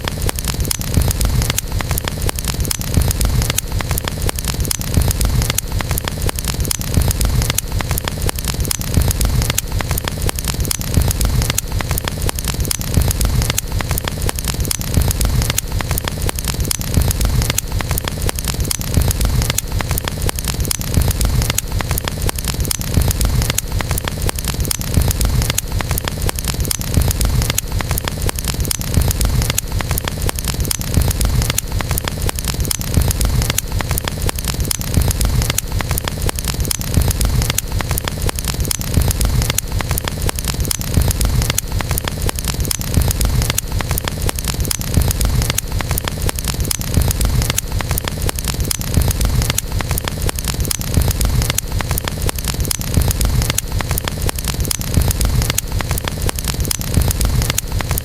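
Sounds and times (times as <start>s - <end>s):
campfire crackling and popping: 0.0s - 58.0s
low rumble of flames: 0.0s - 58.0s.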